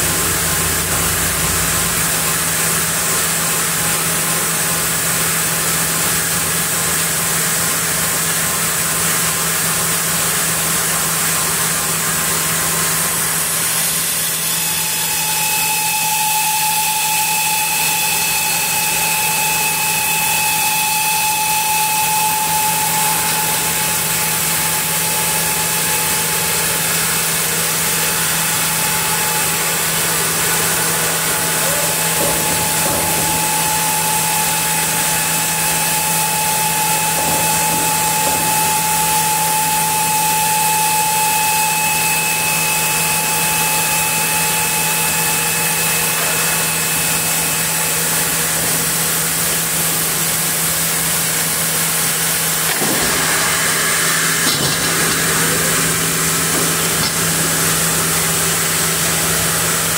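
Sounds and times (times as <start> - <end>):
band saw cutting log: 0.0 - 59.9
high saw whine: 0.0 - 59.9.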